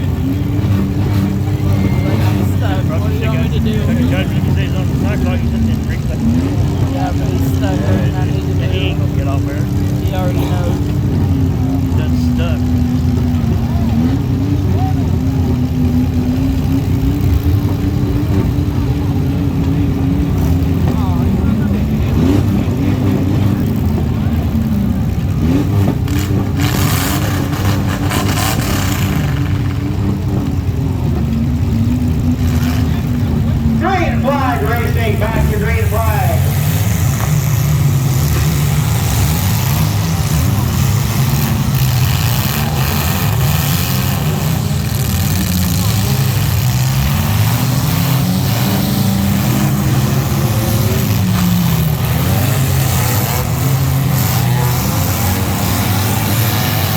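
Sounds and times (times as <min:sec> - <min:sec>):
truck engine revving high: 0:00.0 - 0:56.9.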